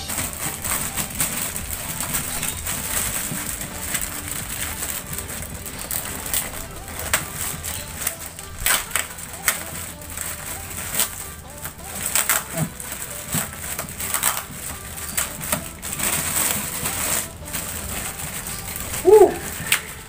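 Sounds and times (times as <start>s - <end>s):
plastic wrapping crinkling: 0.0s - 20.0s.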